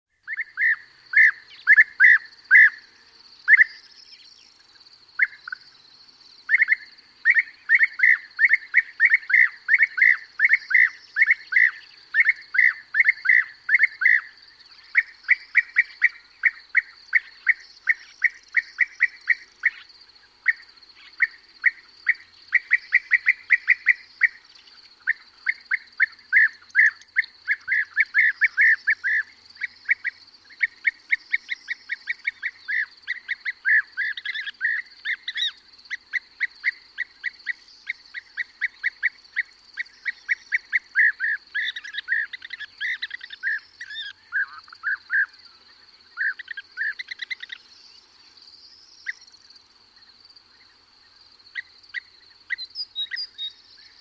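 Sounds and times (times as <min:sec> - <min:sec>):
corn bunting singing: 0:00.1 - 0:54.0
bee-eaters calling: 0:00.2 - 0:04.6, 0:05.2 - 0:05.8, 0:06.4 - 0:49.3, 0:51.5 - 0:54.0
larks singing: 0:00.2 - 0:54.0.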